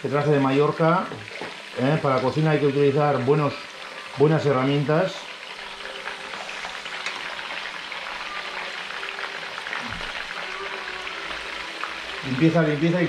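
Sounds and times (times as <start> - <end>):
fish sizzling in a pan: 0.0 - 13.0.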